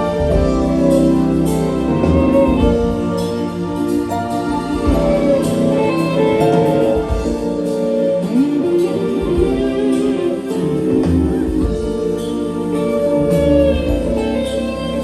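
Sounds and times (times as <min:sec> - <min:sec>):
live funk band playing: 0:00.0 - 0:15.0.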